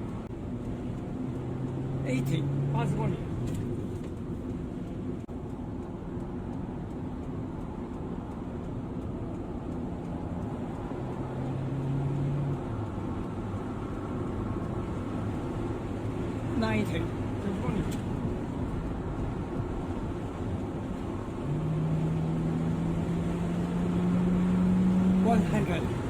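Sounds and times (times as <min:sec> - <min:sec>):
car engine driving: 0:00.0 - 0:26.0
road noise: 0:00.0 - 0:26.0.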